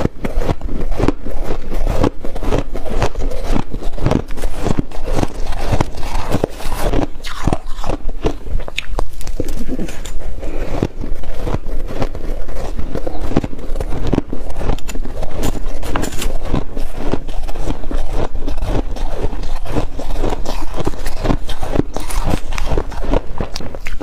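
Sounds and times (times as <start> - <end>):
chewing crunchy ice: 0.0 - 24.0.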